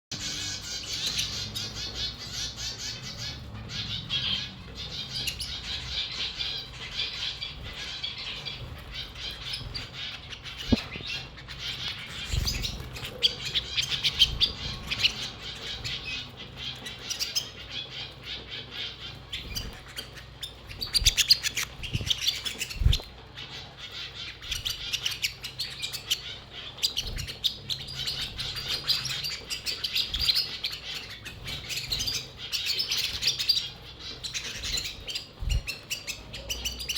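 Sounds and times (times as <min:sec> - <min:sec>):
canaries chirping and twittering: 0:00.1 - 0:36.9.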